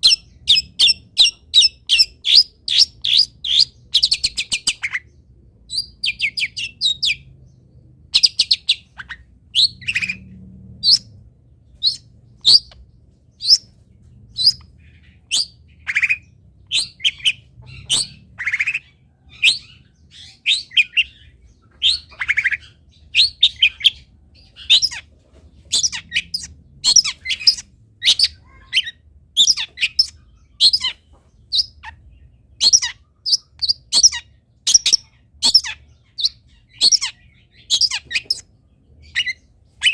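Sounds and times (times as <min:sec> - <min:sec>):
bird chirping and rasping: 0:00.0 - 0:39.9.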